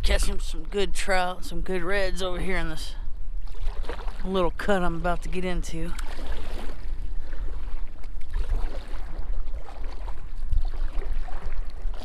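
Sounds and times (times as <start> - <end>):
steady low rumble: 0.0 - 12.0
water sloshing against hull: 0.0 - 12.0.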